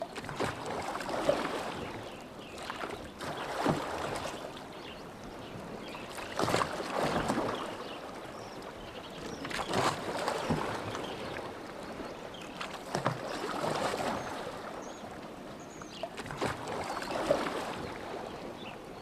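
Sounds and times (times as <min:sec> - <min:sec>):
oars splashing in water: 0:00.0 - 0:18.7.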